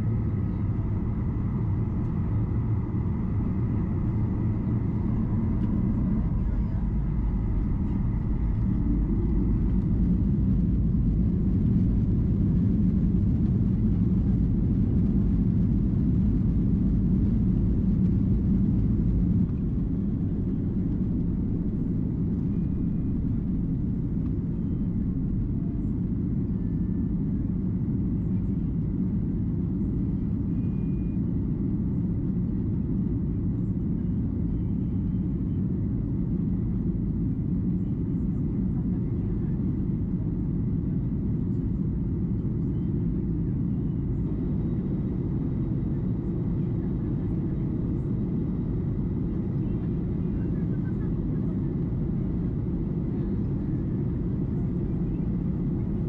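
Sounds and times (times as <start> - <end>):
jet engines at takeoff power: 0.0 - 56.0.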